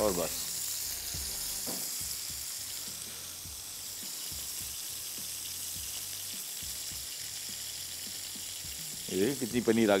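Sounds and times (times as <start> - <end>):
kebabs sizzling in oil: 0.0 - 10.0.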